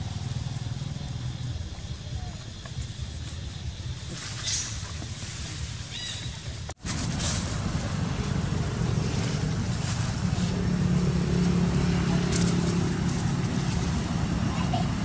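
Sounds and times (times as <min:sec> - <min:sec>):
vehicle engine running: 0:00.0 - 0:04.2, 0:06.8 - 0:15.0.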